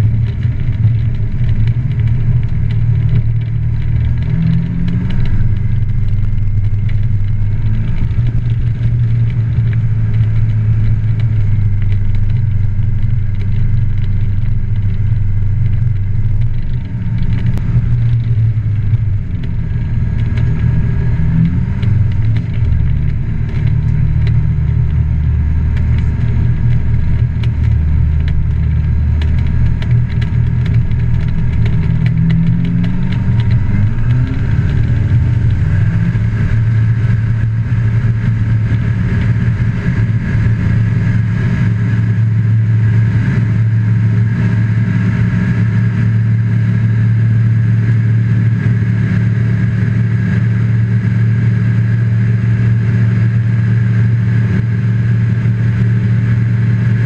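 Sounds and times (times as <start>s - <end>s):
propeller engine hum: 0.0s - 57.0s.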